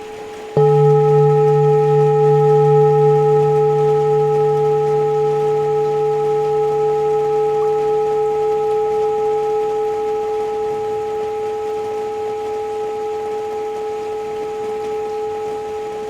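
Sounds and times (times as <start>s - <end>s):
low hum: 0.4s - 16.0s
singing bowls ringing: 0.6s - 16.0s.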